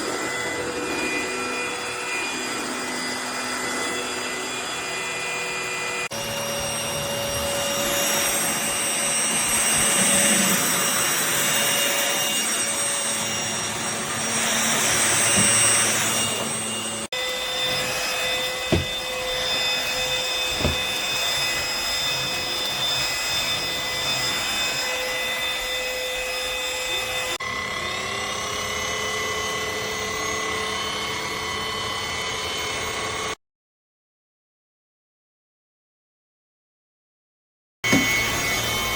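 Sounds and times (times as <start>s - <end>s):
stick vacuum motor whine: 0.0s - 33.4s, 37.8s - 38.9s.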